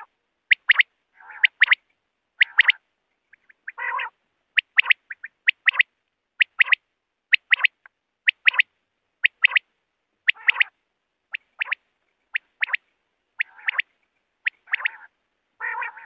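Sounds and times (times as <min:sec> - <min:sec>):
quail calling: 0:00.0 - 0:01.8, 0:02.4 - 0:12.8, 0:13.4 - 0:16.0.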